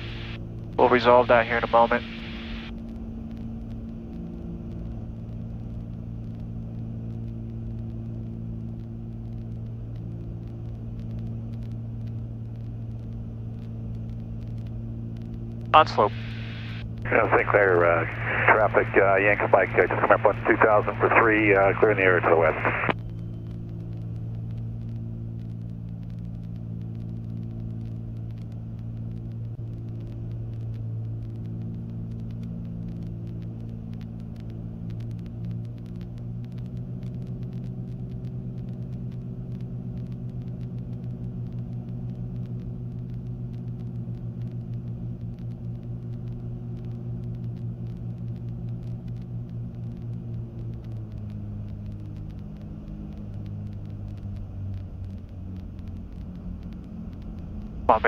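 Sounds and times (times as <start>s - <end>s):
piston aircraft engines droning: 0.0s - 58.0s.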